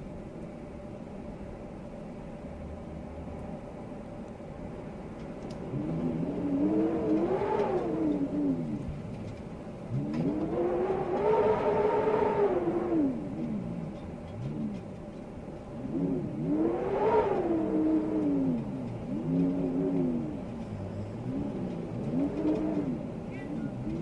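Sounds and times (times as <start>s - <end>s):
storm wind howling: 4.6s - 24.0s.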